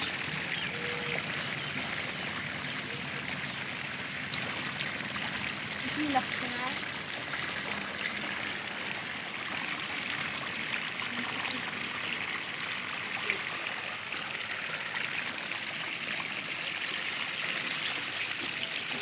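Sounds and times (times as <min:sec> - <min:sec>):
water rushing into a pond: 0:00.0 - 0:19.0.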